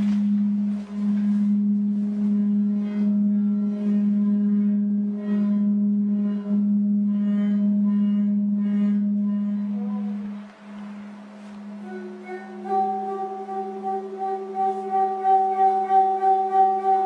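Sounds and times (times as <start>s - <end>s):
gliding notes: 0.0s - 17.0s
metal plate humming and ringing: 0.0s - 17.0s.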